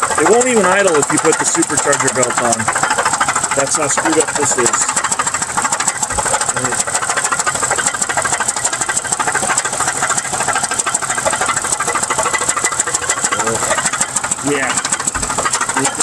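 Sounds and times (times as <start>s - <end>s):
car engine idling with knocking clatter: 0.0s - 16.0s.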